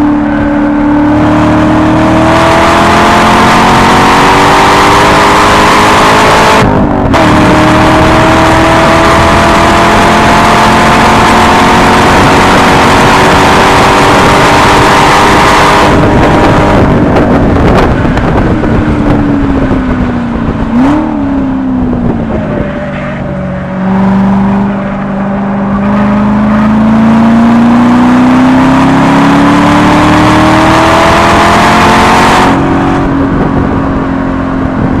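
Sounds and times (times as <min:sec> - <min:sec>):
car engine at high revs: 0:00.0 - 0:35.0.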